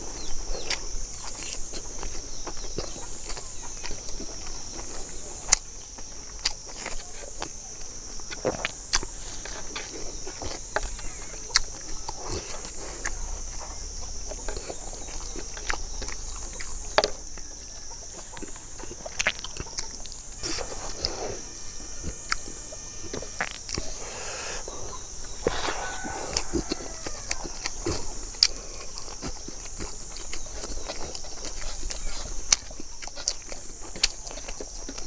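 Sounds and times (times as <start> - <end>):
steady high-pitched hiss: 0.0 - 35.0
person chewing and lip-smacking: 0.6 - 35.0.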